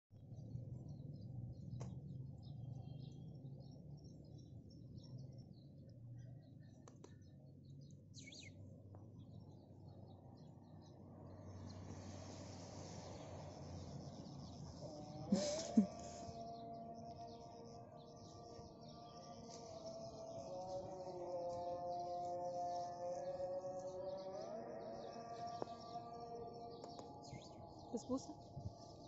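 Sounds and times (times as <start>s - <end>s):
songbirds chirping: 0.2s - 29.0s.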